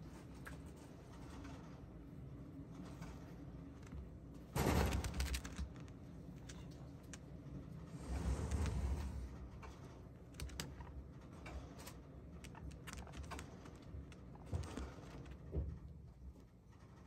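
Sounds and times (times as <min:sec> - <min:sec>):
guinea pig moving about: 0:00.0 - 0:17.0.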